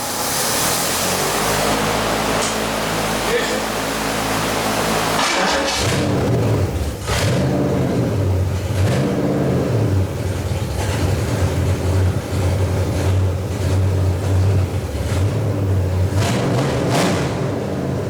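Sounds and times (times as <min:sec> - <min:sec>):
engine running at fast idle: 0:00.0 - 0:18.0.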